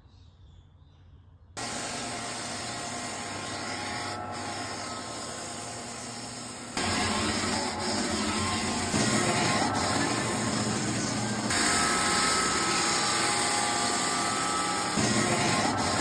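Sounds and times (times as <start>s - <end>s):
floor sander sanding: 1.6s - 16.0s.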